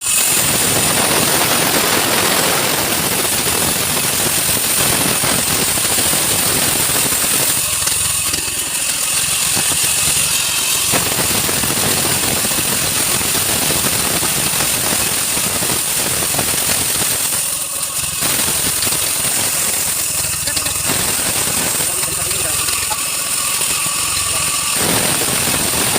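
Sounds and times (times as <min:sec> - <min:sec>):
woodworking machine running: 0:00.0 - 0:25.9.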